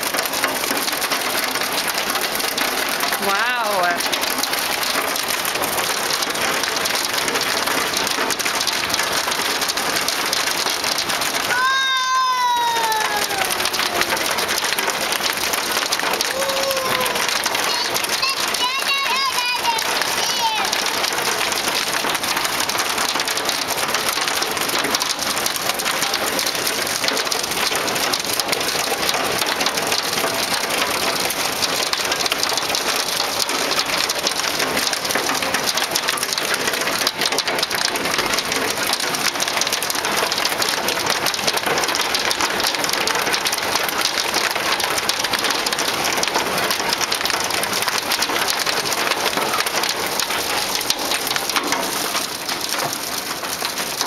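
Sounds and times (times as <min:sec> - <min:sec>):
hail and heavy rain pelting: 0:00.0 - 0:54.0.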